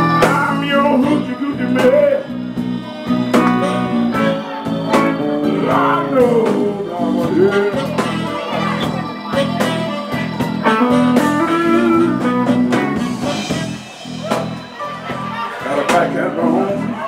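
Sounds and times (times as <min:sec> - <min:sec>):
saxophone: 0:00.0 - 0:15.6
drums: 0:00.0 - 0:17.0
electric guitar bending notes: 0:00.0 - 0:17.0.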